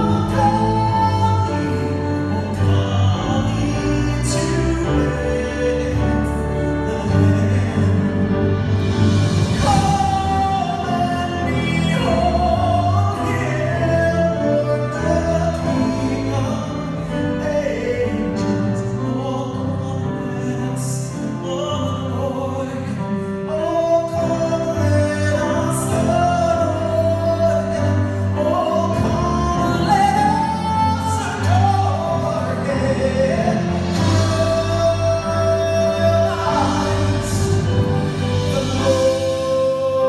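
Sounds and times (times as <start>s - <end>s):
man singing a carol: 0.0s - 8.5s, 9.6s - 40.0s
grand piano: 0.0s - 40.0s.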